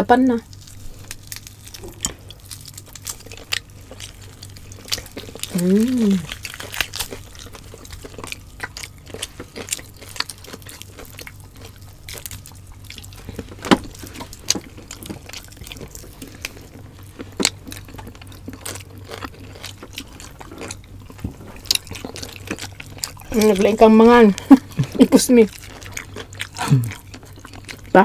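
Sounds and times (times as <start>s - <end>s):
wet chewing and lip-smacking: 0.5s - 28.0s.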